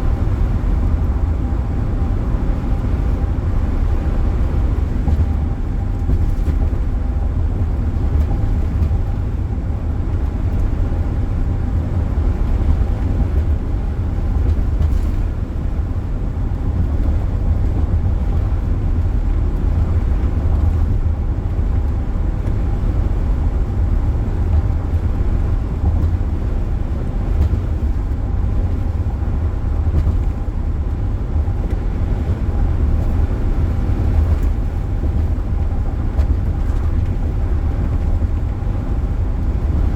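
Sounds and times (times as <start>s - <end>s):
car cabin road and engine noise: 0.0s - 39.9s.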